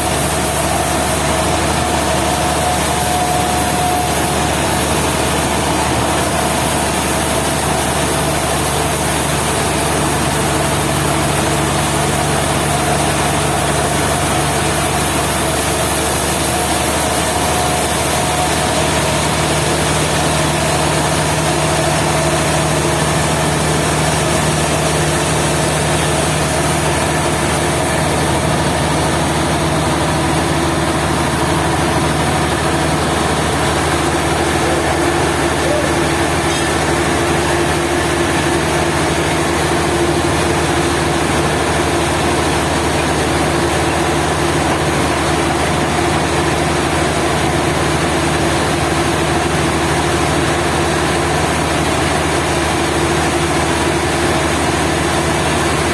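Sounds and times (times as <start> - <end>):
sawmill engine hum: 0.0 - 55.9.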